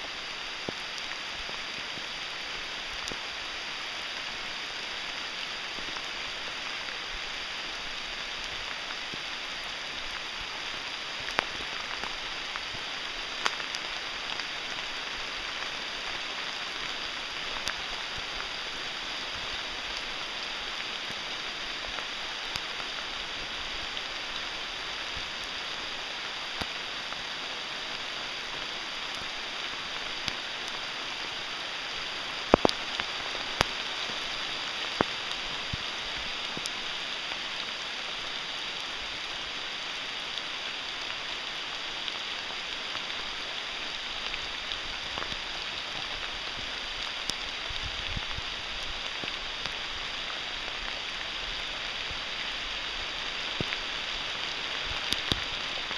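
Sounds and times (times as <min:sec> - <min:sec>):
rain on forest canopy: 0:00.0 - 0:55.9
sharp ticks of raindrops: 0:00.0 - 0:55.9.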